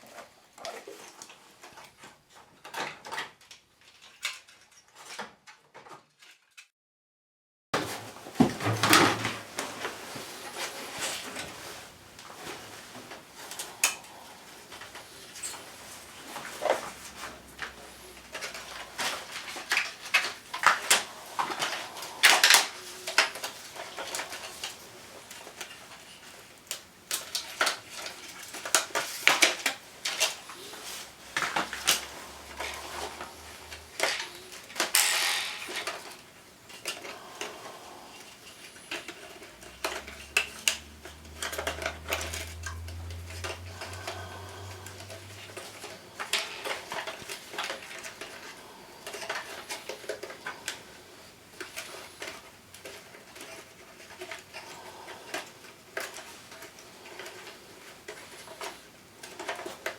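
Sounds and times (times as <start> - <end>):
plastic parts clicking and clattering: 0.1 - 6.7, 7.8 - 37.2, 38.1 - 59.9.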